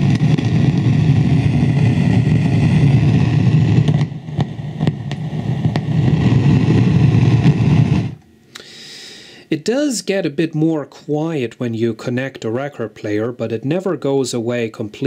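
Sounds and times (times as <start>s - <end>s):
receiver static with rumble: 0.0s - 8.7s, 9.5s - 15.0s.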